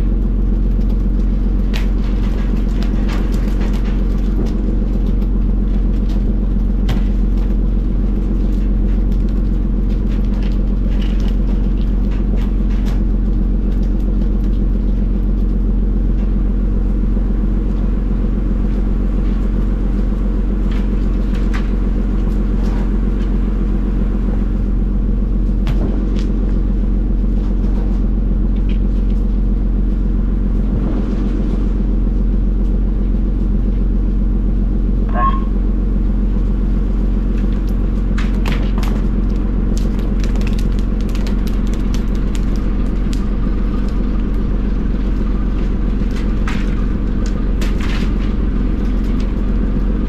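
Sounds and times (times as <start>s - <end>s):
boat engine drone: 0.0s - 50.0s.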